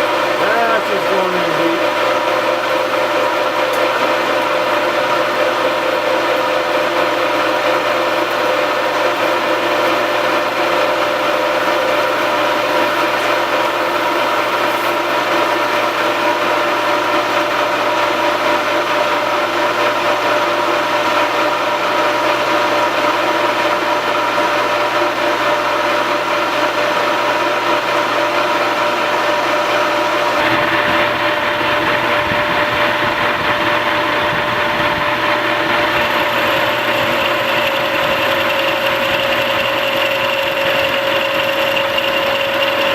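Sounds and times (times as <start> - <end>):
lathe machine hum with whine: 0.0 - 42.9.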